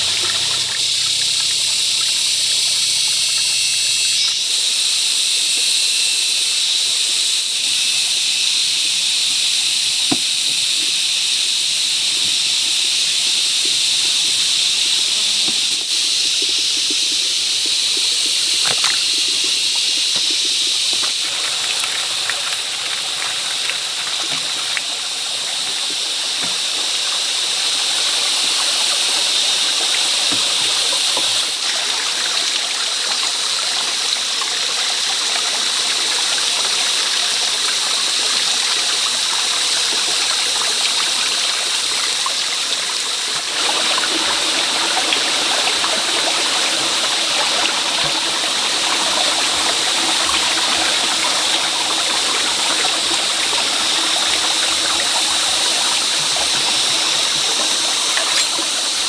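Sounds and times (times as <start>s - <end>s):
water running: 0.0s - 4.7s, 8.8s - 59.0s.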